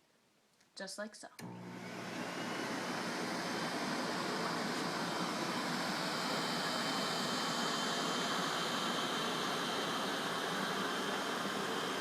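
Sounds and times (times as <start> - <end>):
snow machine blower rush: 1.4 - 12.0.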